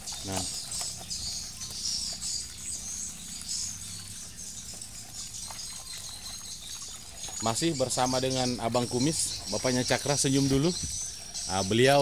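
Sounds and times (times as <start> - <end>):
birds chirping: 0.0 - 12.0
hose water splashing into basin: 0.0 - 12.0.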